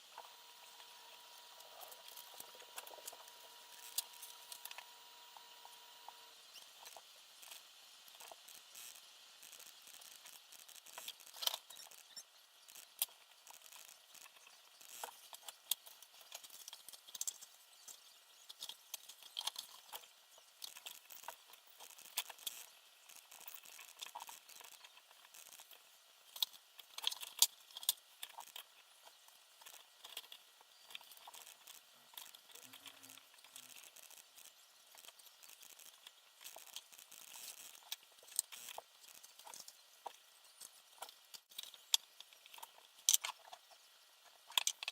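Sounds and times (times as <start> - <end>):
faint steady hiss: 0.0 - 44.9
small parts and tools rattling: 0.0 - 44.9.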